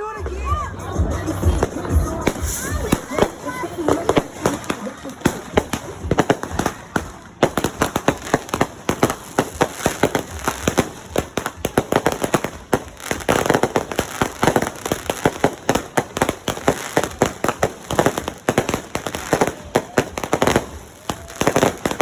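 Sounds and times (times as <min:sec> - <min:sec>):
fireworks popping and cracking: 0:00.0 - 0:22.0.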